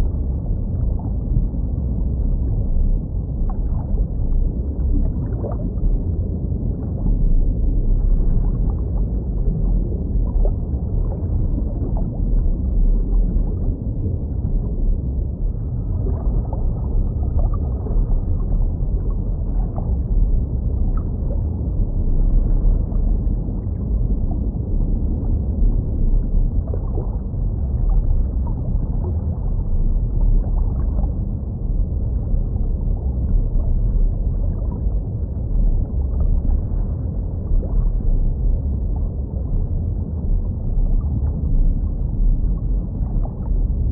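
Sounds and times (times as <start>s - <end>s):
faint bubbling: 0.0s - 43.9s
underwater low rumble: 0.0s - 43.9s.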